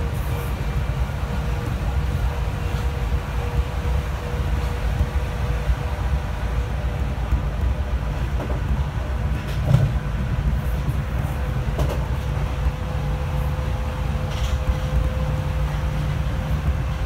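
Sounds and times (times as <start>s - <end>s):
rumble of wheels on rails: 0.0s - 17.0s.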